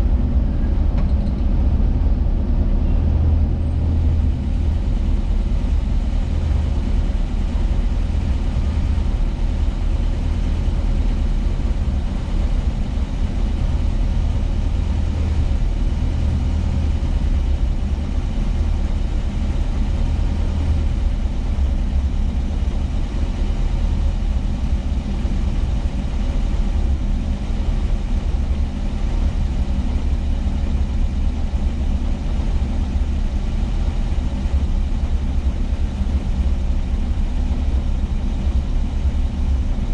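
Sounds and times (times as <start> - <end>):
van engine droning: 0.0 - 39.9.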